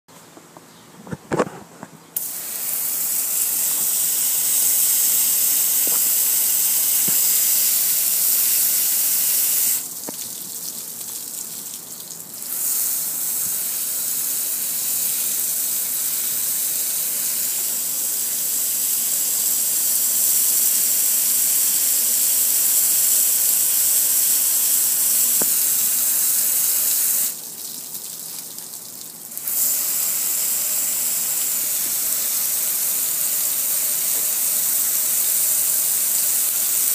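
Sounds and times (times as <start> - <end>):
water jet spraying on metal grill: 2.2 - 36.9.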